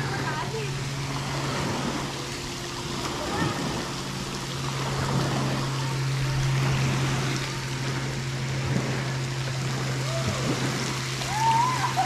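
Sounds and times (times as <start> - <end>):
low hum: 0.0 - 12.0
running water: 0.0 - 12.0.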